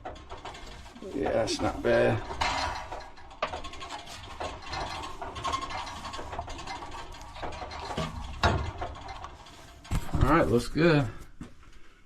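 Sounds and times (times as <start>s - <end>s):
metal hoses clicking and creaking: 0.0s - 11.4s.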